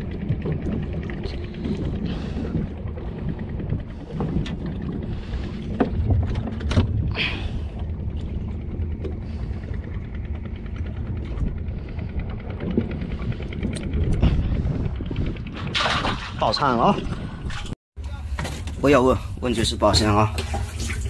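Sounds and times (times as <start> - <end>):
wind on microphone: 0.0 - 17.8
boat engine rumble: 0.0 - 21.0.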